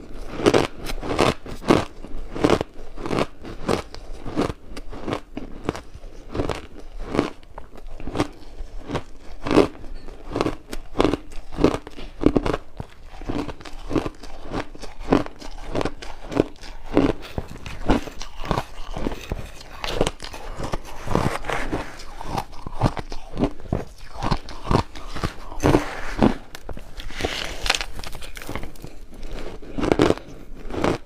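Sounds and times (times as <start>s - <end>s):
ice crunching being chewed: 0.0s - 31.0s.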